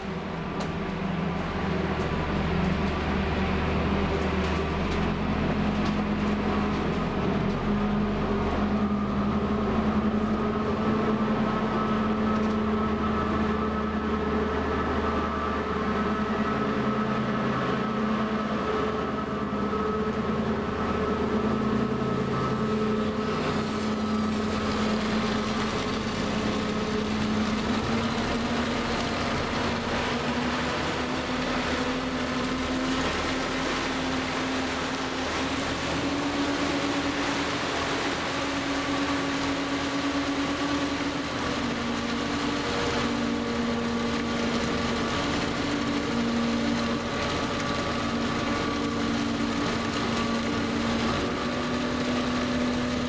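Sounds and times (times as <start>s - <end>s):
boat diesel engines running: 0.0s - 53.0s
water rushing along hull: 0.0s - 53.0s
wind: 0.0s - 53.0s.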